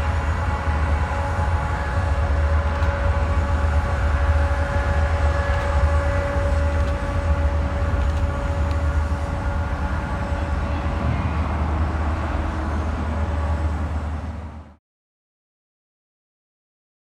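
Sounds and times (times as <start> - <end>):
freight train rumbling: 0.0 - 14.8.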